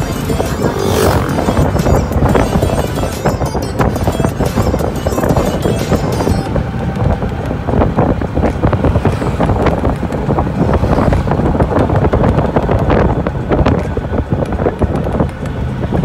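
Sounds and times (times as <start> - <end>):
vehicle road noise: 0.0 - 16.0
wind buffeting microphone: 0.0 - 16.0.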